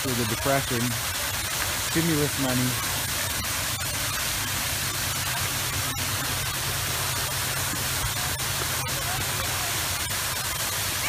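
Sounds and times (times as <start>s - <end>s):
fountain water spraying: 0.0s - 11.0s.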